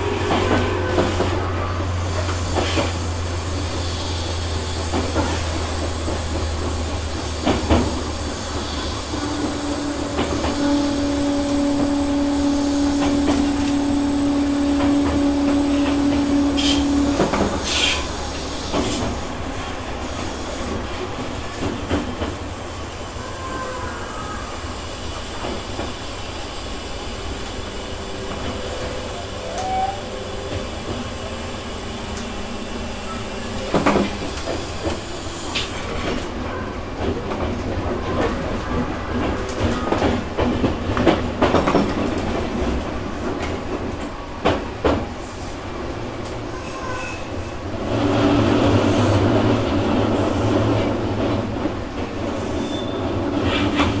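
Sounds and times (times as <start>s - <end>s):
train equipment hum: 0.0s - 54.0s.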